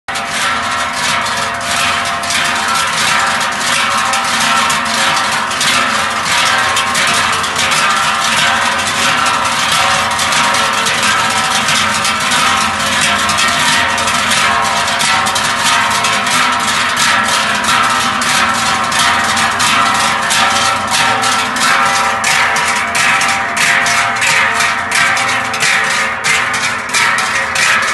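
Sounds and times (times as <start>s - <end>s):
cowbells clanging: 0.1s - 27.9s.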